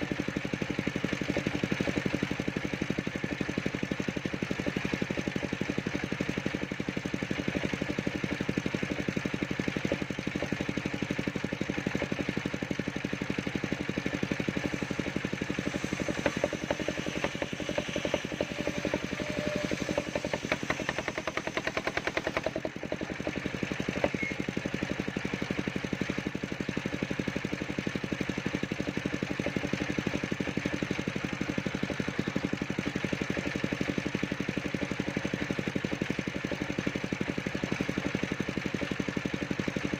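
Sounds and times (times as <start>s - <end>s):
clatter and whine: 0.0s - 39.9s
sawmill engine running: 0.0s - 39.9s.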